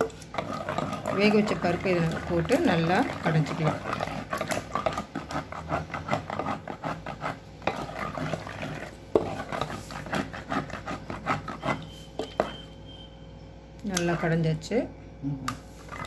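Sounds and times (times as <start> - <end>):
masher scraping in stone pot: 0.0 - 12.7, 15.7 - 16.0.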